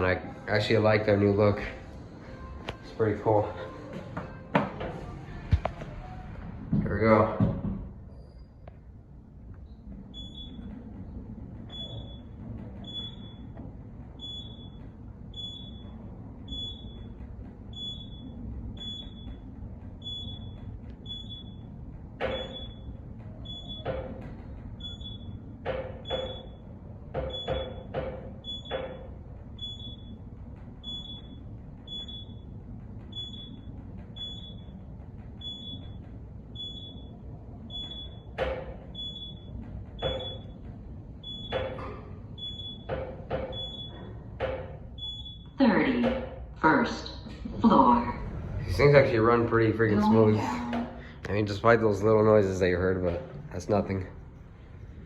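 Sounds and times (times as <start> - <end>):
elevator ride rumble: 0.0 - 55.0.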